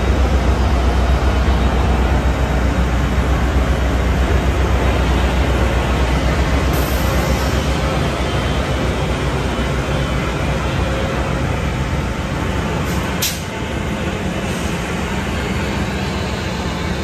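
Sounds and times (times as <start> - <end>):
locomotive idling rumble: 0.0 - 17.0.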